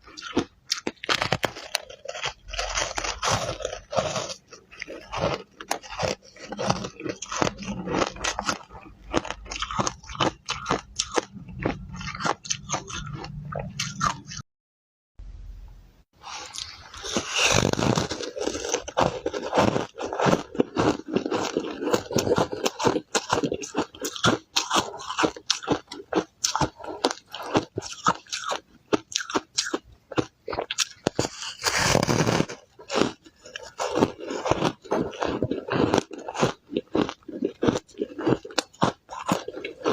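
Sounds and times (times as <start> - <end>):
ice crunching between teeth: 0.0 - 14.4, 16.2 - 39.9.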